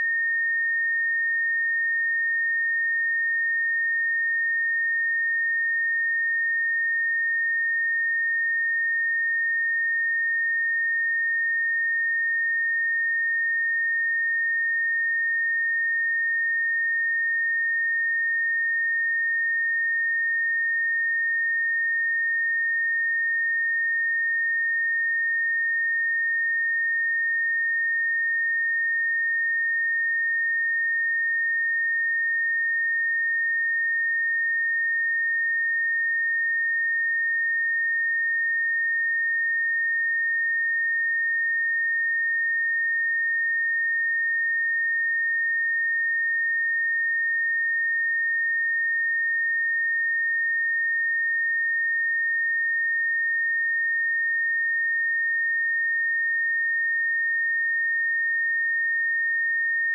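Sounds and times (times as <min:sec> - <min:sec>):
high-pitched sine test tone: 0:00.0 - 0:59.9.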